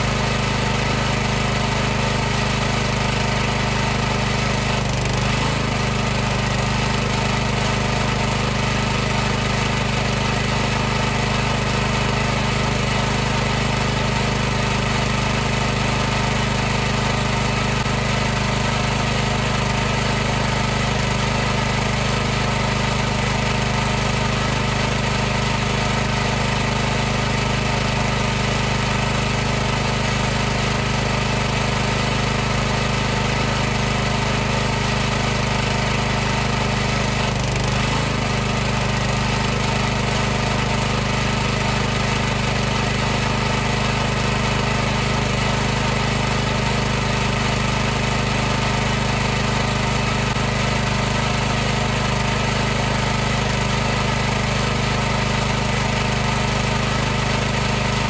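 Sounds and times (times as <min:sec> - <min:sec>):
pressure washer running: 0:00.0 - 0:58.0.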